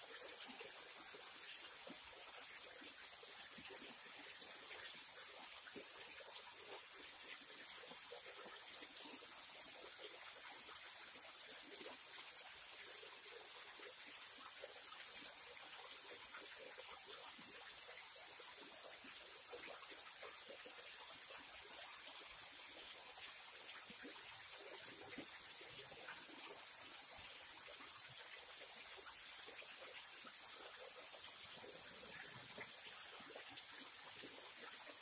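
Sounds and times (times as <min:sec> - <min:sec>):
small waterfall splashing: 0:00.0 - 0:35.0.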